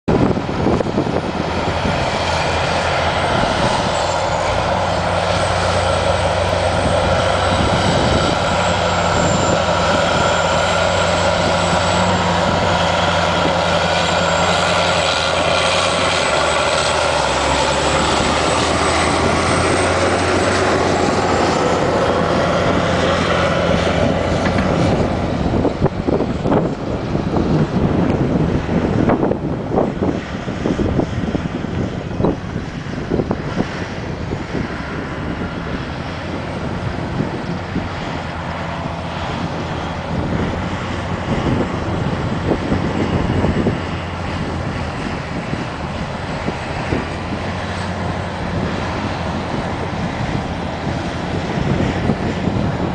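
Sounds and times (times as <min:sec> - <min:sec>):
tractor diesel engine under load: 0:00.1 - 0:52.9.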